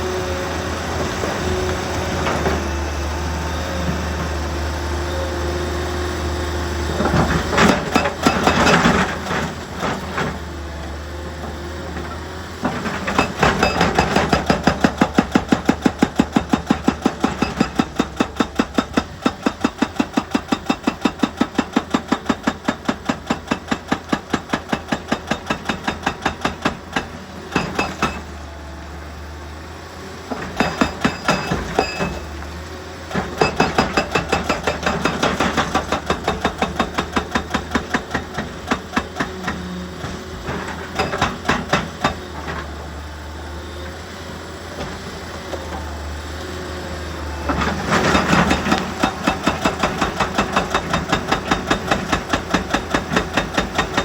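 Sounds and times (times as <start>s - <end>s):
diesel engine running: 0.0s - 22.4s, 23.9s - 54.0s.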